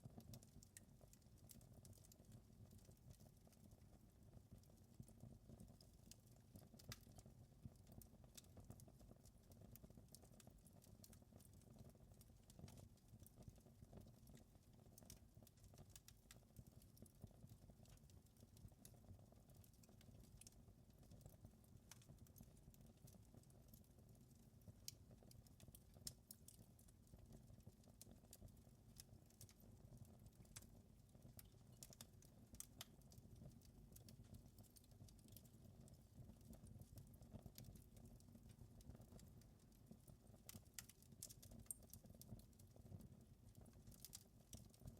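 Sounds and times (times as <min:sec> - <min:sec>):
faint fireplace crackling: 0:00.0 - 0:44.9.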